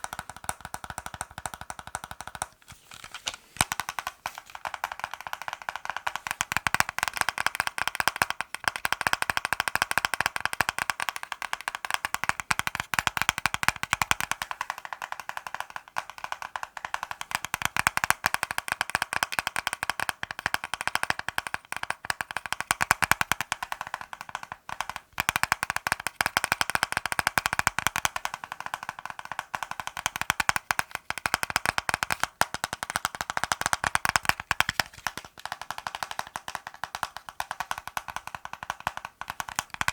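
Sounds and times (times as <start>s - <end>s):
fingers tapping hard objects: 0.0s - 39.9s.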